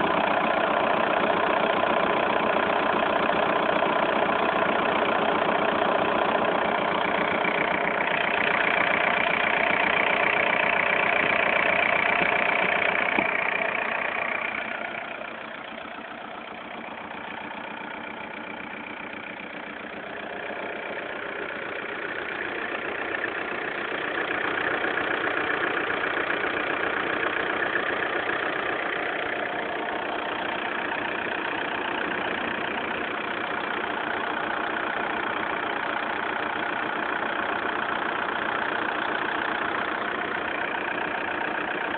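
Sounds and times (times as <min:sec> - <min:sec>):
diesel car engine running: 0:00.0 - 0:41.9.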